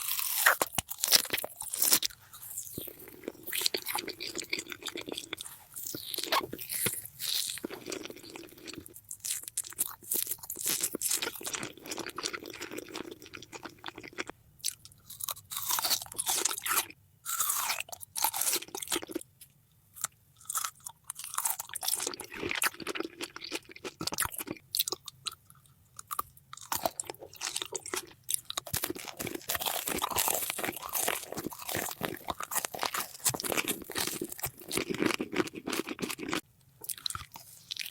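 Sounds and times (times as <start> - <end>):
chewing crunchy food: 0.0 - 37.9.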